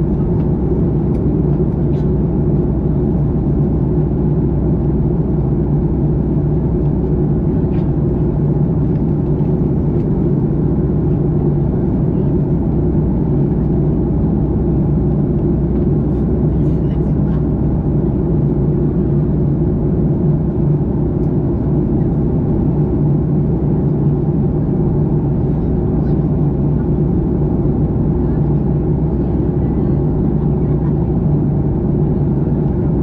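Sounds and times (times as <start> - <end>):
jet cabin engine drone: 0.0 - 33.0.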